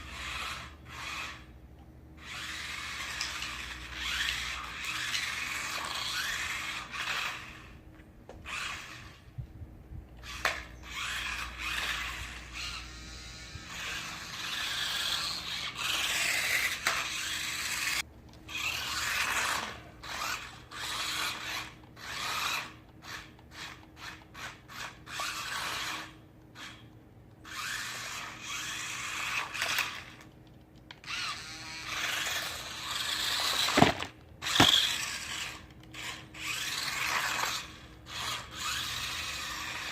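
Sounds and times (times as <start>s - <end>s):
toy car motors whirring: 0.0s - 9.5s, 10.1s - 39.9s.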